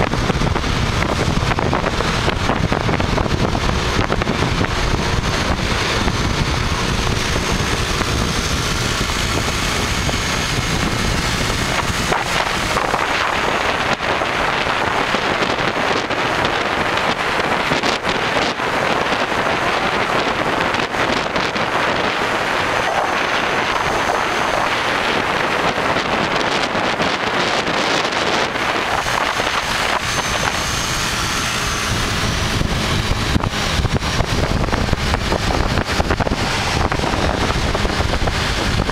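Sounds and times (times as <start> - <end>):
road noise: 0.0 - 38.9
vehicle engine running: 0.0 - 38.9
wind buffeting on microphone: 0.0 - 38.9.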